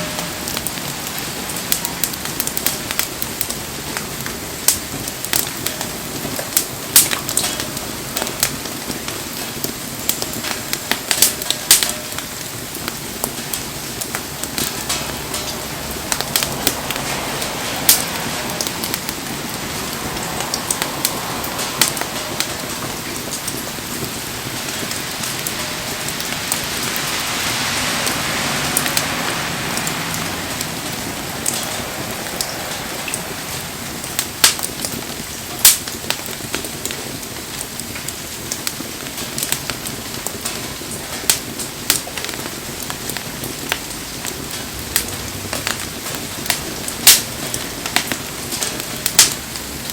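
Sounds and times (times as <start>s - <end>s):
bonfire crackling and popping: 0.0s - 49.9s
rain hissing: 0.0s - 49.9s.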